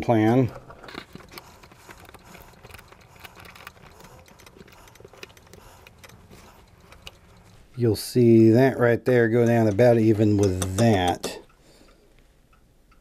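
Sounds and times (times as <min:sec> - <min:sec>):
metal rifle parts clicking: 0:00.1 - 0:07.9, 0:09.5 - 0:13.0.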